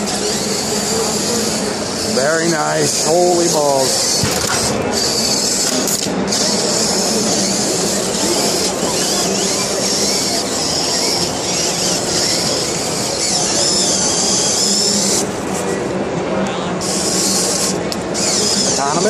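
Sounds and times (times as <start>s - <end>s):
robot electric motors whining: 0.0s - 16.0s, 16.8s - 19.0s.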